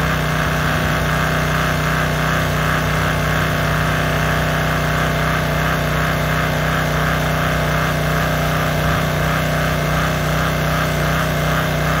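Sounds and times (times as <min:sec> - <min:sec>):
small engine humming: 0:00.0 - 0:12.0
water spraying onto concrete: 0:00.0 - 0:12.0.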